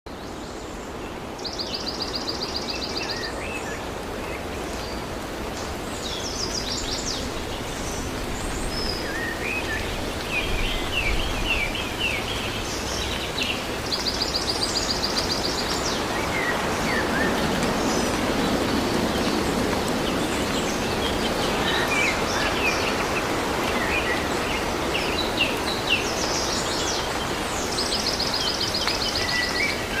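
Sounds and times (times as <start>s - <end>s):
outdoor background noise: 0.1s - 30.0s.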